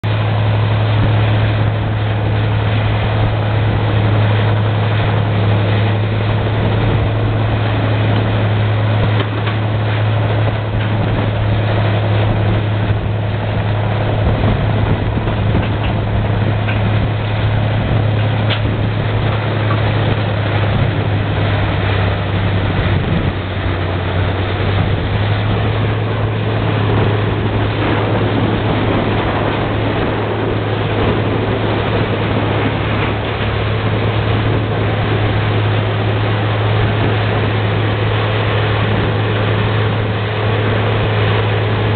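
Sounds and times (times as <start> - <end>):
woodchipper engine drone: 0.0 - 41.9.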